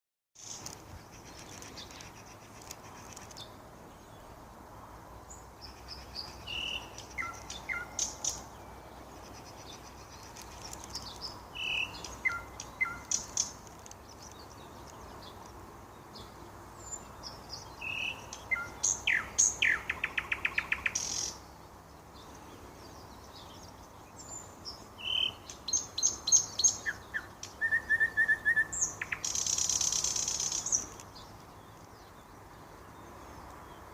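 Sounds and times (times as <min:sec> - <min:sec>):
nightingale singing: 0:00.4 - 0:04.3, 0:05.3 - 0:33.9.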